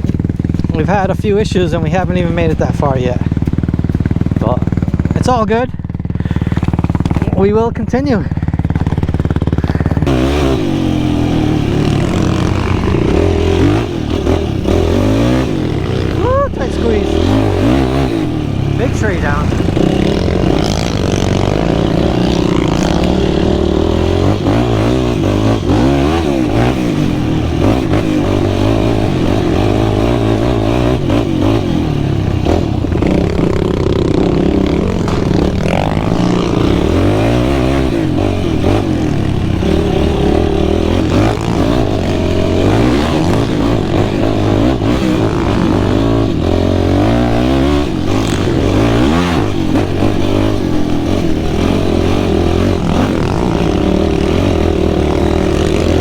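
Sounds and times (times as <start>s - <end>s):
clatter: 0.0s - 56.0s
quad bike engine revving: 0.0s - 56.0s.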